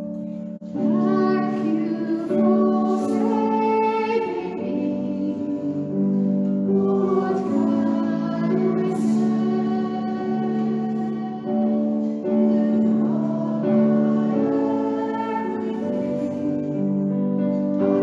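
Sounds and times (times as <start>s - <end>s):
person singing worship song: 0.7s - 18.0s.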